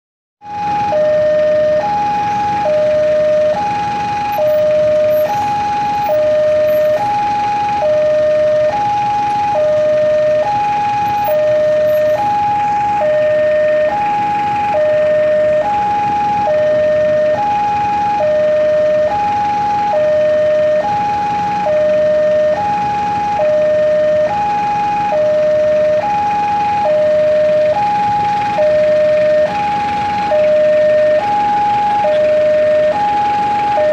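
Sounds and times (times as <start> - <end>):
two-tone level-crossing alarm: 0.4 - 33.9.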